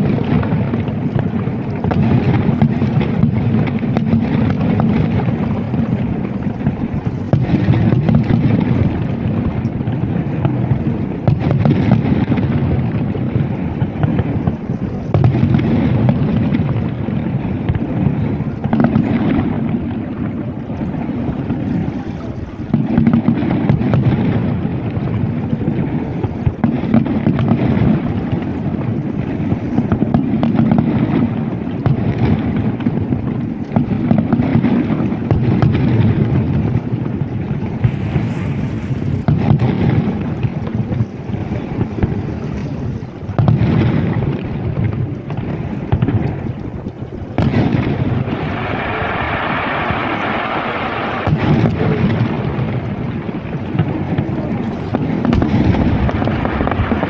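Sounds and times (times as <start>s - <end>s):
fireworks booming: 0.0s - 57.0s
wind rumble on microphone: 0.0s - 57.0s.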